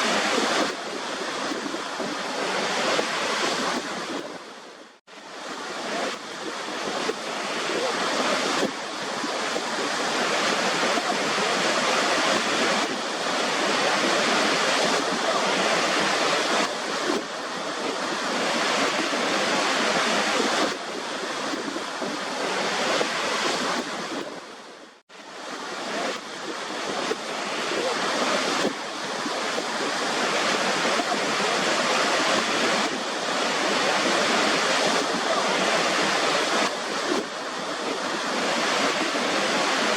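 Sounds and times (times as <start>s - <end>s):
waterfall rushing: 0.0s - 24.6s, 25.3s - 39.9s.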